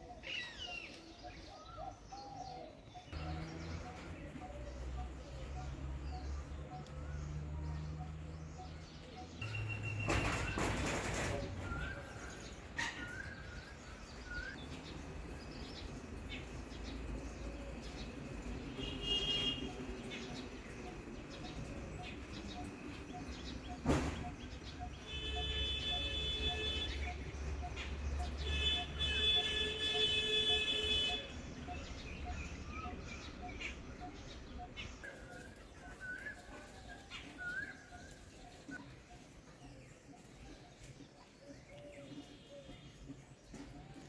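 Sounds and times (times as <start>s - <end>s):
bird chirps and calls: 0.0s - 44.0s.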